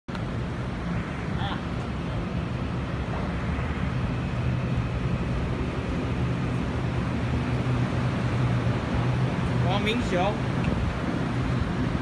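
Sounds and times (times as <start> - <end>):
train rumble and hum: 0.1 - 12.0.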